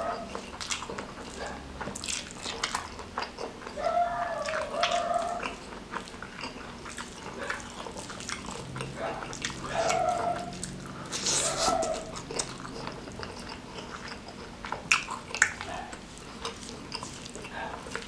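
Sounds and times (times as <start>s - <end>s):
wet chewing and smacking: 0.0s - 18.0s.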